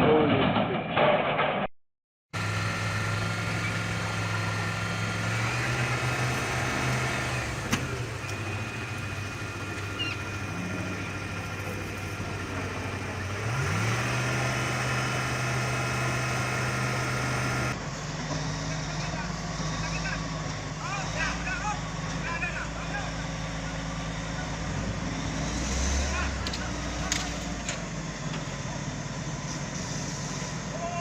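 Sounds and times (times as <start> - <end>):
vehicle engine running: 2.3 - 30.7.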